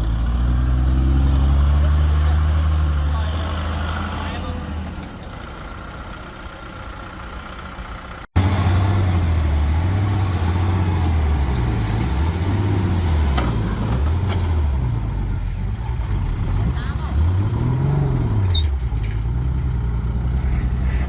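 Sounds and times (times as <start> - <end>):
heavy diesel engine under load: 0.0 - 21.0.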